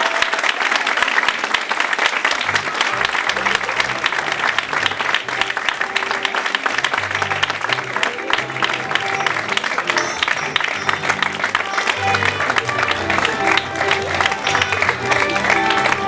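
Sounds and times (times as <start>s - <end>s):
audience applauding: 0.0s - 16.0s
instrumental music with bass line: 2.5s - 16.0s.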